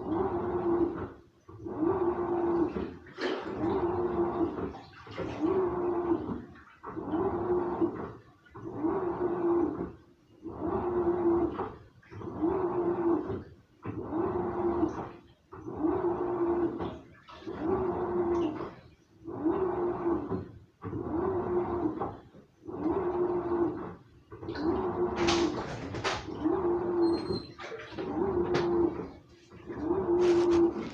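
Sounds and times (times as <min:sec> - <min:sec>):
washing machine motor whine: 0:00.0 - 0:30.9
water and laundry sloshing: 0:00.0 - 0:30.9.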